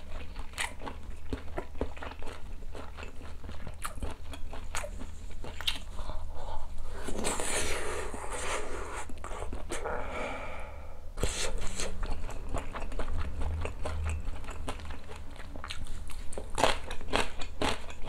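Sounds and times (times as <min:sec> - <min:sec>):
biting and chewing food: 0:00.0 - 0:08.3, 0:11.2 - 0:18.0.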